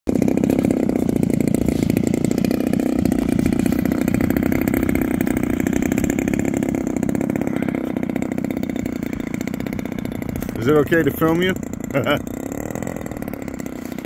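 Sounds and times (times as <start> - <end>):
model airplane engine idling: 0.1 - 14.0.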